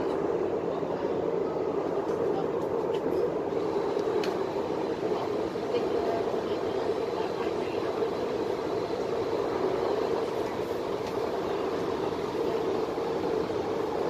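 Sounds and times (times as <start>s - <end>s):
train carriage hum and rumble: 0.0s - 14.0s.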